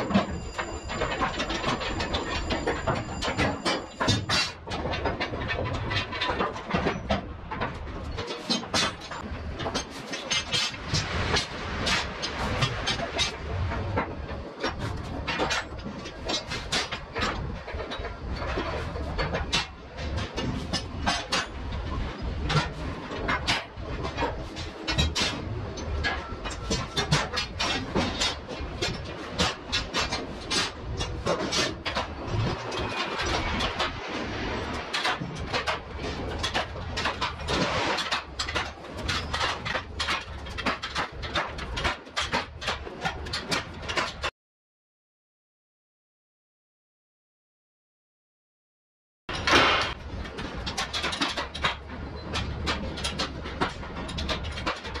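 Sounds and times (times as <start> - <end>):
metal lashing rods clanking: 0.0 - 44.3.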